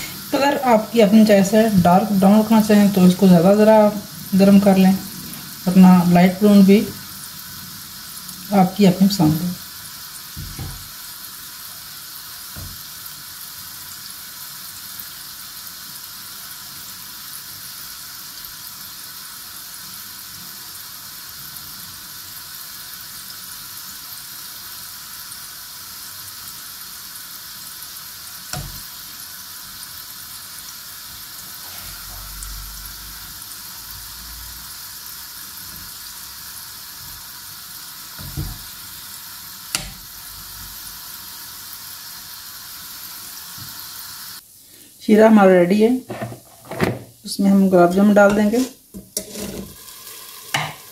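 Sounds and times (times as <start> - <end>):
balls deep-frying in hot oil: 0.0 - 50.9.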